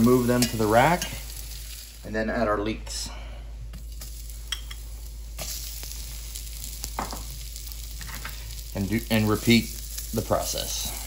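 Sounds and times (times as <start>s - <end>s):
oil sizzling in a pot: 0.0s - 2.5s, 3.7s - 11.0s.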